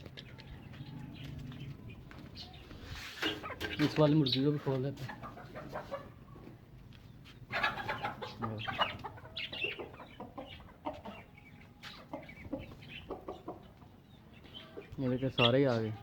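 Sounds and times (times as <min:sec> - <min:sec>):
hens clucking: 0:00.1 - 0:16.0.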